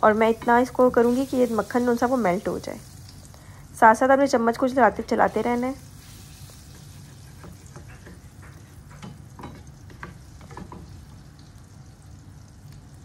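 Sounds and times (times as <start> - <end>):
butter sizzling in frying pan: 0.0 - 3.4, 5.0 - 13.0.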